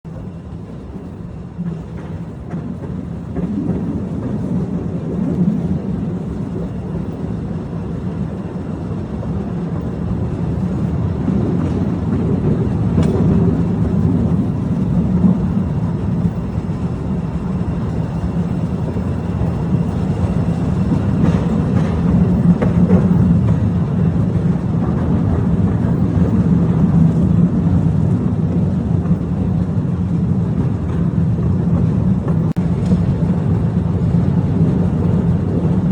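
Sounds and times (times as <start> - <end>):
train rumbling along track: 0.0 - 35.9
wheels clicking: 0.1 - 35.9.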